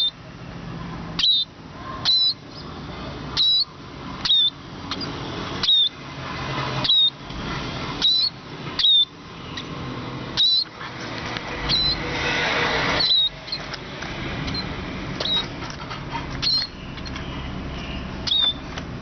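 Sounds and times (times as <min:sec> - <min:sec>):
sparrow chirping: 0:00.0 - 0:00.2, 0:01.1 - 0:07.2, 0:07.9 - 0:18.8.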